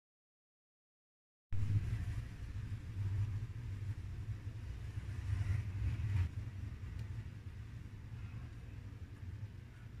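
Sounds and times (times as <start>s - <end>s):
steady low hum with hiss: 1.6s - 10.0s.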